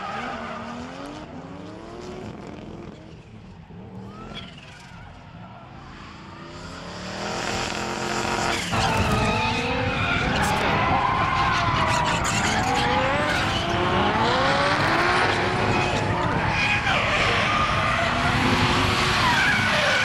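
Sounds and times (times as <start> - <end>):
car engines revving: 0.0 - 20.0
tyres skidding: 0.0 - 20.0.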